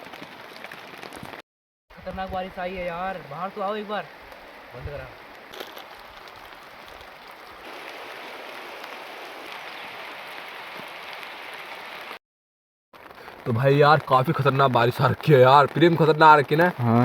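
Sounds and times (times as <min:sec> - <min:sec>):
heavy rain falling: 0:00.0 - 0:01.4, 0:02.1 - 0:12.2, 0:13.0 - 0:17.0.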